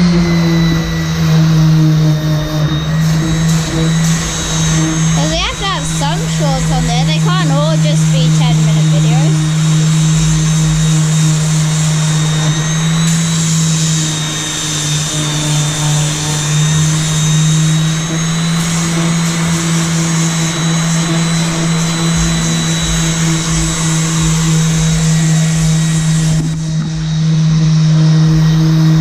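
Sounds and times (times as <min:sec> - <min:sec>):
electric power sander running: 0:00.0 - 0:29.0.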